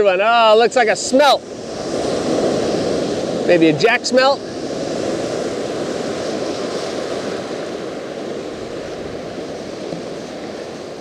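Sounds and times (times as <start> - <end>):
ocean surf washing on beach: 0.0 - 11.0.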